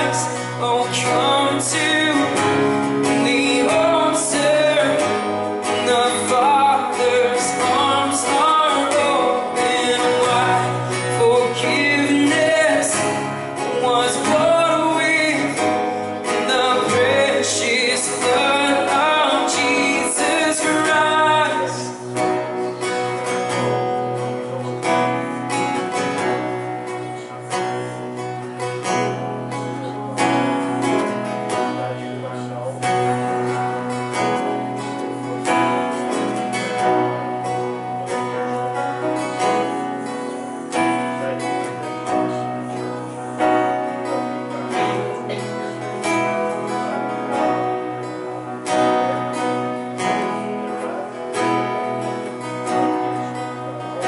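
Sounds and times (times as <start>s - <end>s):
strummed acoustic guitar: 0.0s - 54.0s.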